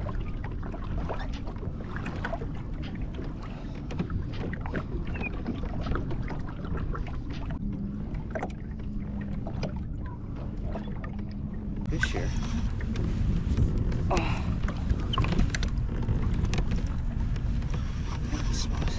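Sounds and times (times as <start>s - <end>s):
small splashes and ticks: 0.0s - 18.9s
steady low rumble: 0.0s - 18.9s
water lapping against hull: 0.0s - 18.9s.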